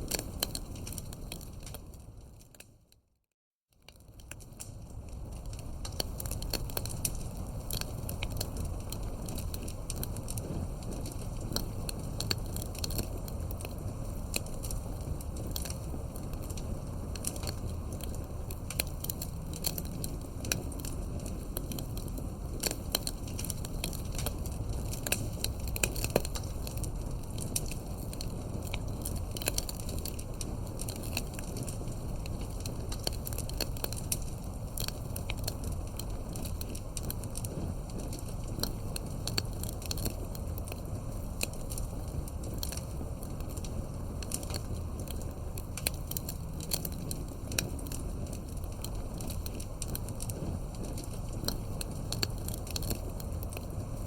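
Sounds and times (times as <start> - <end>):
campfire crackling: 0.0 - 2.7, 3.8 - 54.0
sharp pops and snaps: 0.0 - 2.7, 3.8 - 54.0
steady low rumble: 4.1 - 54.0.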